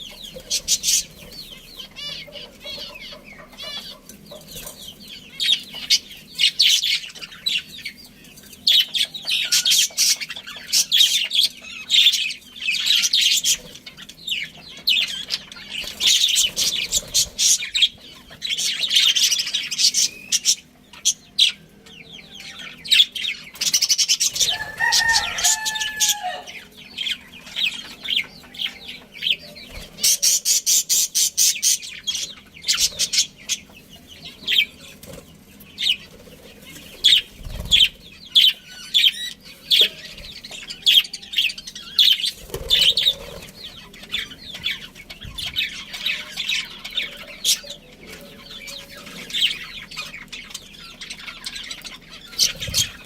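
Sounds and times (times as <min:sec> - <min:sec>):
budgerigars chattering and chirping: 0:00.0 - 0:53.0.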